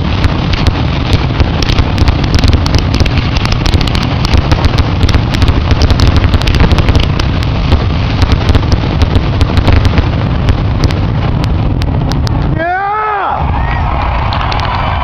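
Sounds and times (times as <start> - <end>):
firework shells bursting: 0.0 - 12.6, 13.9 - 15.0
firework cracks and crackles: 0.0 - 15.0.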